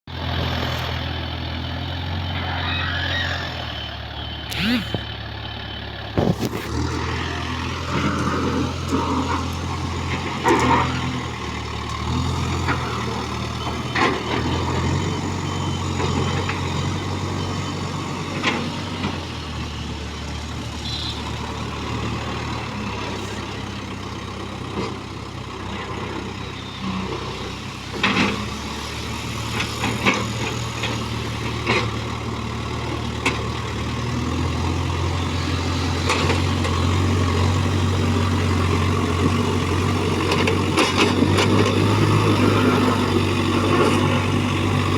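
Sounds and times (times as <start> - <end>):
backhoe diesel engine running: 0.1 - 44.9.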